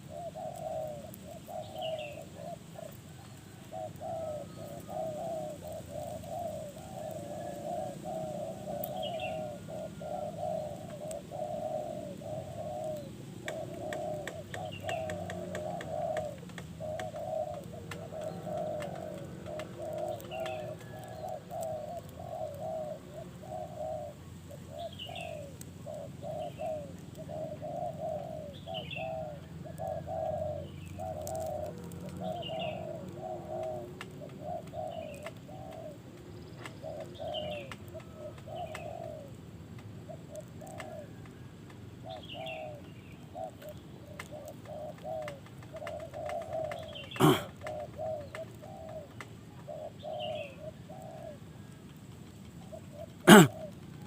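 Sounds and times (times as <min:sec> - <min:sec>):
birds calling repeated notes: 0:00.0 - 0:39.4, 0:40.1 - 0:54.0.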